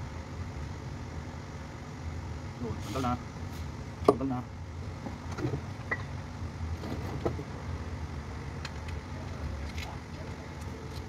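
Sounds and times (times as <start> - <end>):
workshop low hum: 0.0 - 11.0.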